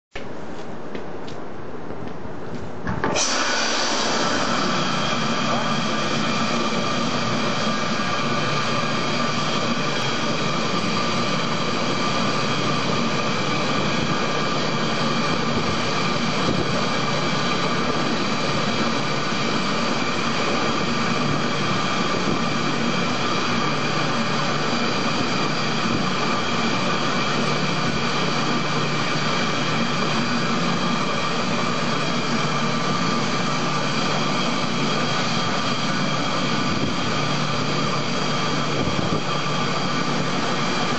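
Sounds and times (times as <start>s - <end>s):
mixer motor whine: 2.9s - 40.9s.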